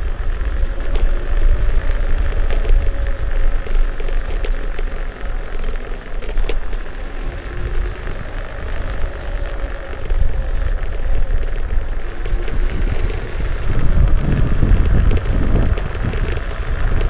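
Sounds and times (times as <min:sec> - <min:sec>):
faint steady whine: 0:00.0 - 0:17.0
road noise: 0:00.0 - 0:17.0
wind on microphone: 0:00.0 - 0:17.0
rattling clicks: 0:00.1 - 0:17.0.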